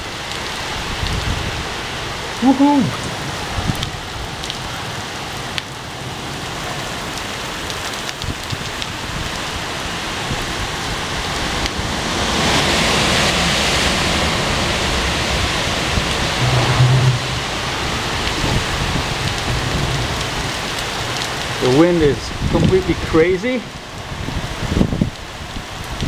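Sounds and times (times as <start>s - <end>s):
sharp ticks of raindrops: 0.0s - 14.3s, 17.3s - 26.0s
heavy rain pouring: 0.0s - 26.0s.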